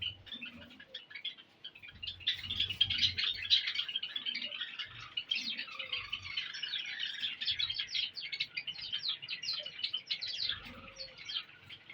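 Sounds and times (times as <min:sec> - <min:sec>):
sparrows chirping: 0:00.0 - 0:11.9.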